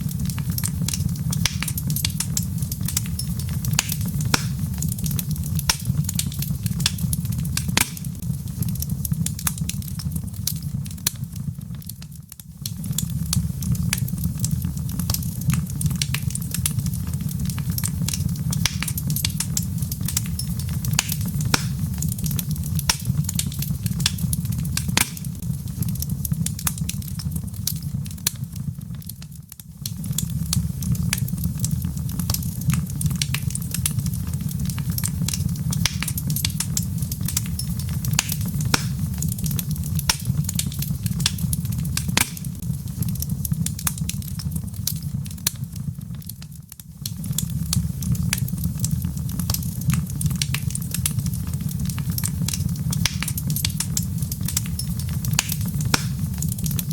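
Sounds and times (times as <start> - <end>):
logs crackling and popping: 0.0 - 56.9
wood fire burning: 0.0 - 56.9.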